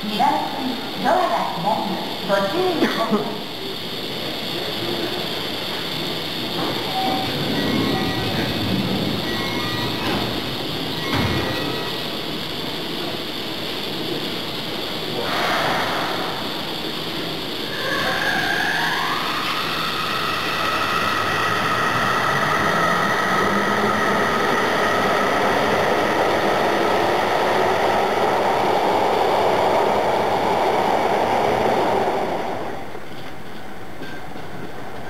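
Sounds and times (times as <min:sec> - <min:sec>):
train cars rolling: 0:00.0 - 0:35.0
train motor whine: 0:00.0 - 0:35.0.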